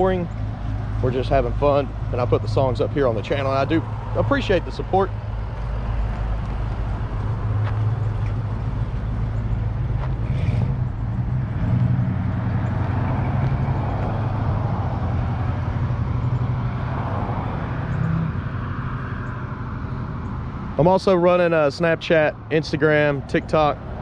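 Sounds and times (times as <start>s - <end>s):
traffic noise: 0.0s - 24.0s
vehicle engine humming: 0.0s - 24.0s.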